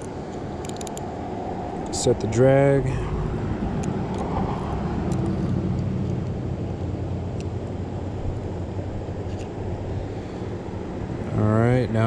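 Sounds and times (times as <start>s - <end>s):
faint distant motor hum: 0.0s - 12.0s
low engine rumble: 0.0s - 12.0s.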